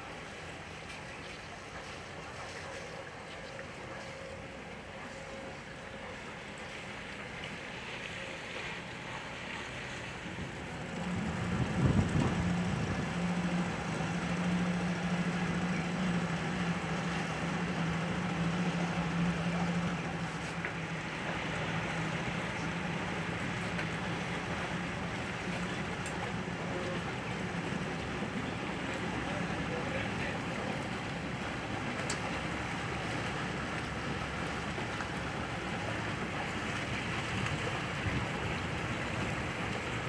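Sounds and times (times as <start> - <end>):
motorboat engine running: 0.0 - 40.0
water noise: 0.0 - 40.0
wind: 0.0 - 40.0.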